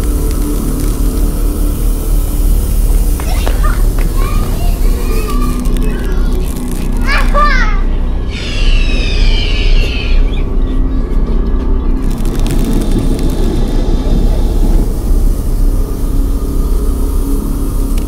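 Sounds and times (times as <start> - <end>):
faint humming tones: 0.0 - 18.0
loud low rumble: 0.0 - 18.0.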